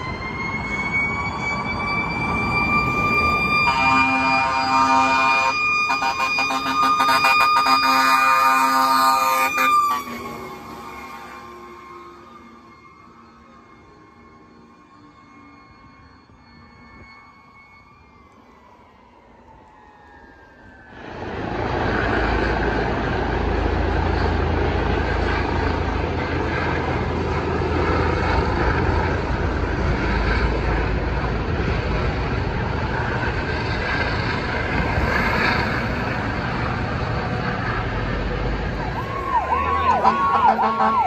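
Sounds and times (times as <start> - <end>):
helicopter flying overhead: 0.0 - 41.0.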